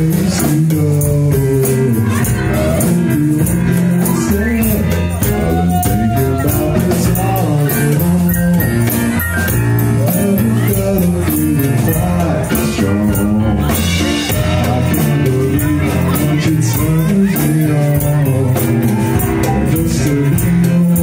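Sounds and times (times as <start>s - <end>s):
drum kit: 0.0s - 21.0s
keyboard: 0.0s - 21.0s
man singing amplified: 0.0s - 21.0s.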